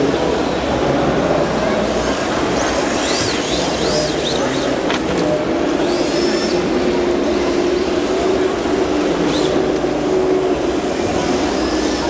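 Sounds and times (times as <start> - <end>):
exhibition hall din: 0.0 - 12.0.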